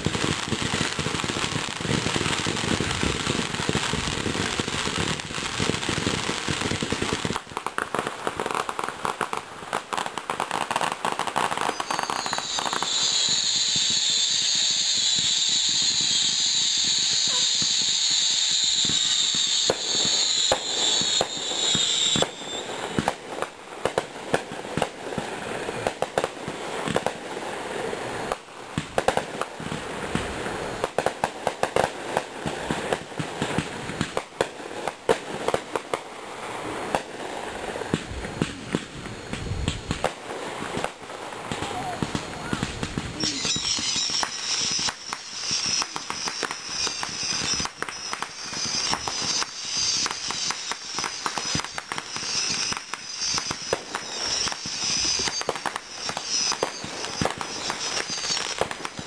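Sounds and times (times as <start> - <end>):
firework high-pitched hissing whine: 0.0 - 59.0
fireworks crackling and popping: 0.0 - 59.0.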